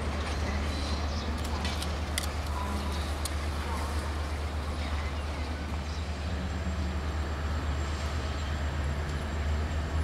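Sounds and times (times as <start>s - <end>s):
locomotive diesel engine rumble: 0.0s - 10.0s.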